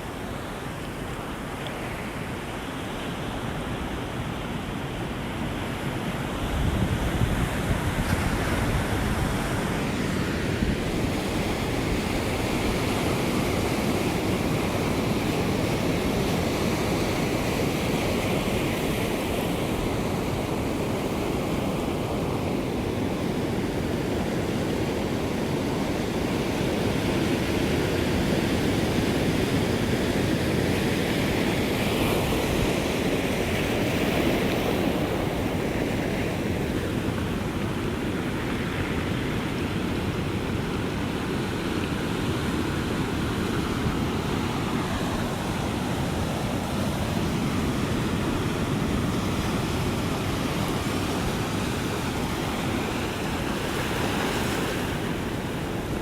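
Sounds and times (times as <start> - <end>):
ocean surf washing ashore: 0.0 - 56.0.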